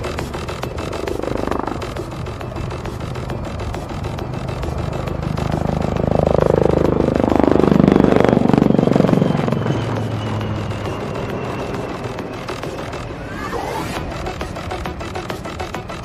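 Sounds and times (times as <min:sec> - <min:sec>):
helicopter flying past: 0:00.0 - 0:16.0.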